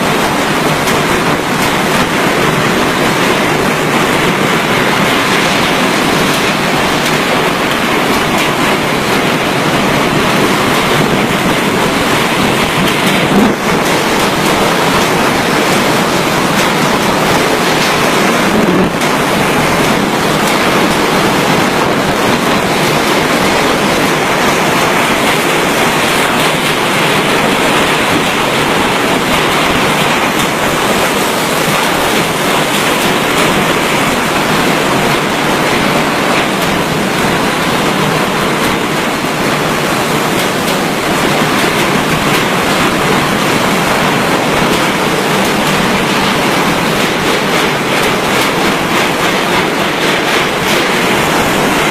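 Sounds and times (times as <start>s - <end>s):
heavy rain: 0.0s - 51.9s
wind: 0.0s - 51.9s.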